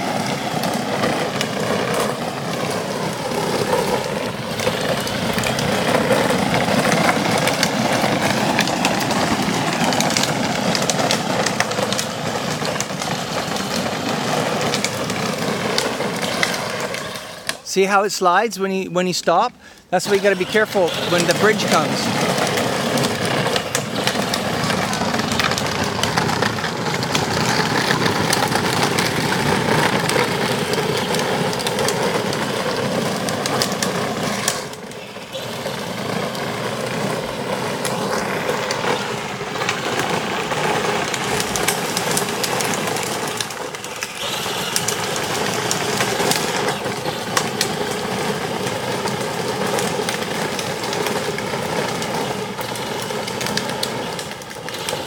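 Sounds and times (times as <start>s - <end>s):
plastic wheels rumbling on pavement: 0.0s - 55.0s.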